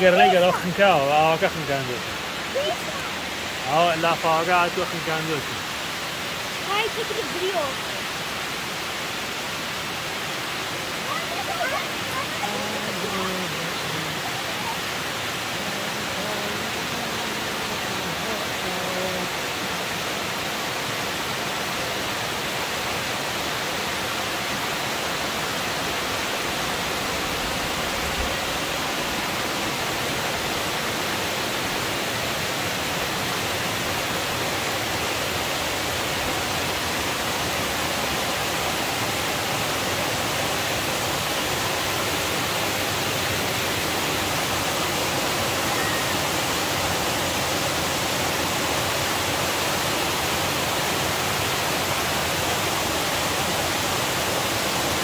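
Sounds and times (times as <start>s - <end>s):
water crashing over a dam: 0.0s - 55.0s.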